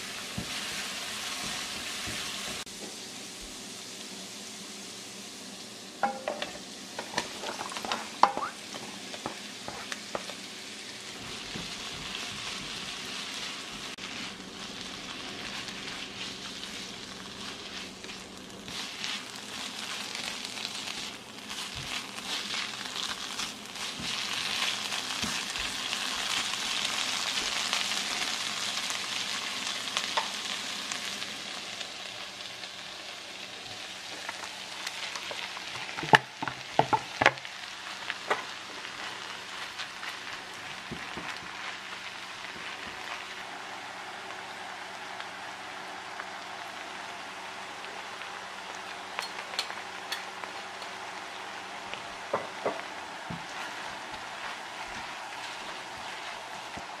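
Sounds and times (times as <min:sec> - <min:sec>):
onions sizzling in a pan: 0:00.0 - 0:57.0.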